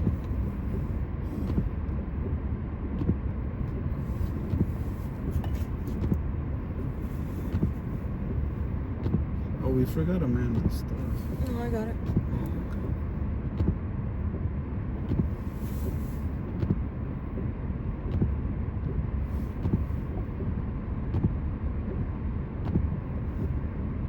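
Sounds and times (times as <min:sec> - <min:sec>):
car cabin road noise: 0:00.0 - 0:24.0.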